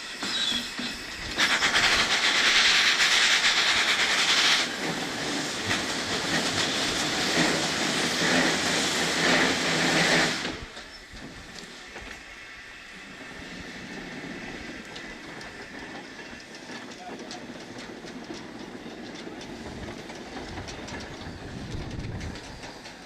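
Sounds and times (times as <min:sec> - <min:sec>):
steam engine hissing exhaust: 0:00.0 - 0:23.0.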